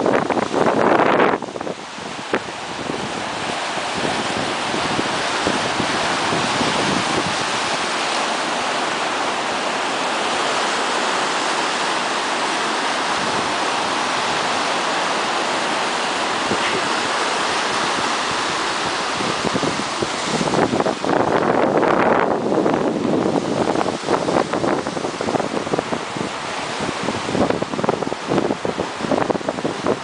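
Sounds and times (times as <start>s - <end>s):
surf breaking over rocks: 0.0s - 30.0s.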